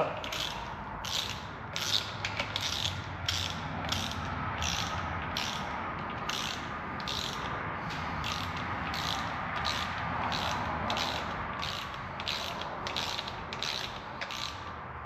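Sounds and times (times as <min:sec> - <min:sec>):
ratchet wrench clicking: 0:00.2 - 0:14.8.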